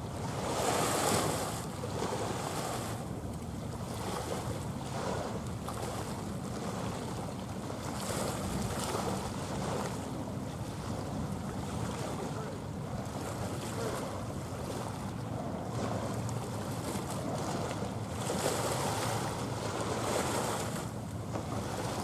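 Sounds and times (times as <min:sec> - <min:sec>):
small waves washing ashore: 0:00.0 - 0:22.0.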